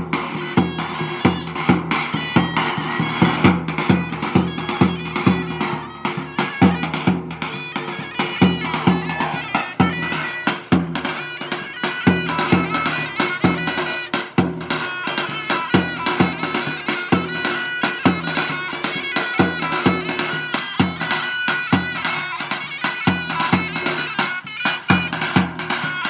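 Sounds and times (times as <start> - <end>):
drum beating: 0.0 - 26.0
reedy wind melody: 0.0 - 26.0.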